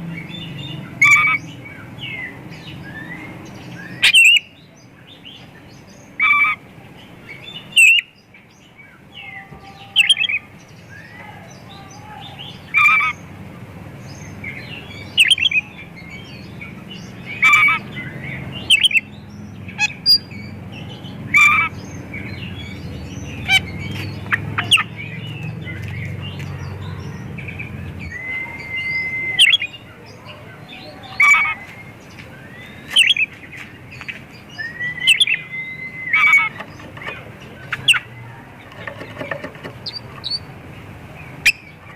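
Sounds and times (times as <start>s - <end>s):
bird singing sharp phrases: 0.0s - 41.9s.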